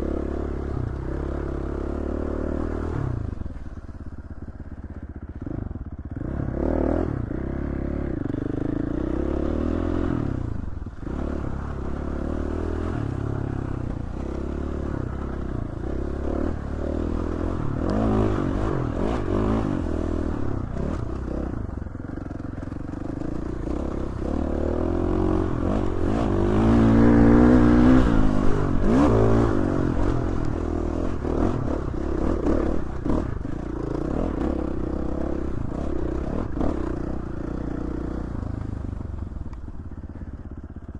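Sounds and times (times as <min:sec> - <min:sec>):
dirt bike engine revving: 0:00.0 - 0:03.7, 0:05.3 - 0:39.4.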